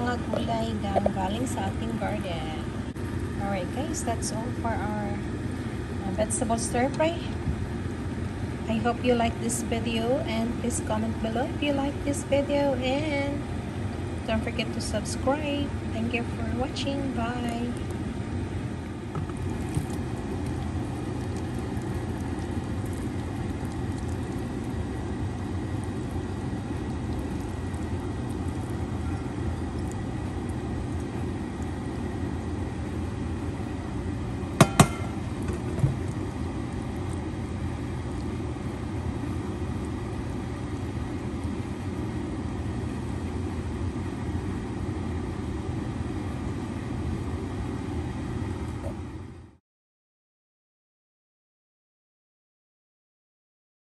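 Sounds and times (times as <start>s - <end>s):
faint hum: 0.0s - 49.6s
low mechanical rumble: 0.0s - 49.6s.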